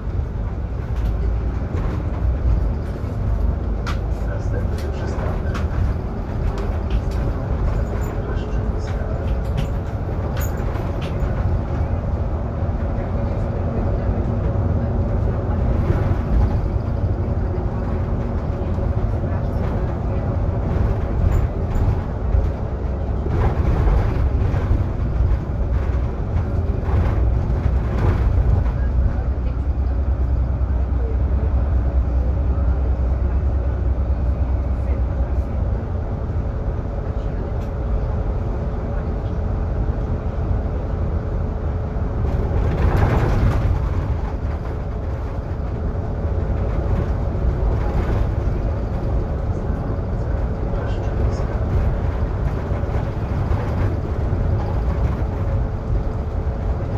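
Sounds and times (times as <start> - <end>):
bus low rumble: 0.0 - 56.9
road noise: 0.0 - 56.9.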